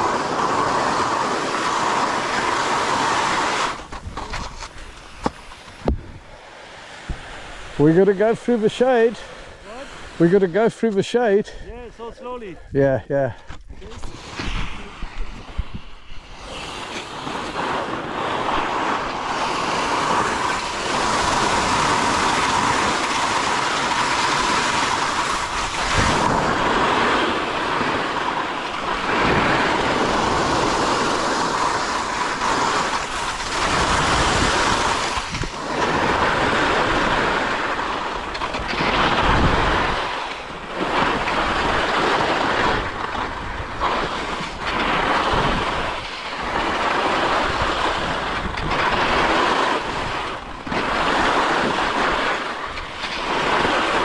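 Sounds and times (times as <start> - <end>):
wind on microphone: 0.0 - 8.7, 12.6 - 54.0
skis scraping over snow: 0.0 - 12.6, 13.6 - 54.0.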